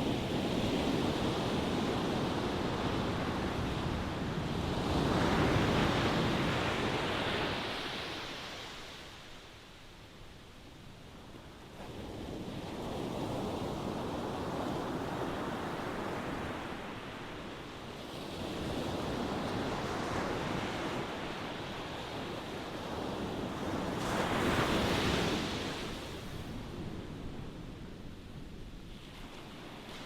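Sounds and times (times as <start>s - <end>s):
ocean waves washing ashore: 0.0s - 30.0s.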